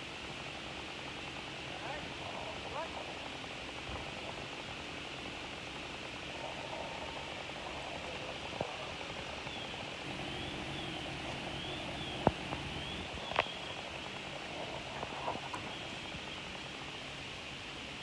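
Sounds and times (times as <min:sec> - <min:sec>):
fire rushing noise: 0:00.0 - 0:18.0.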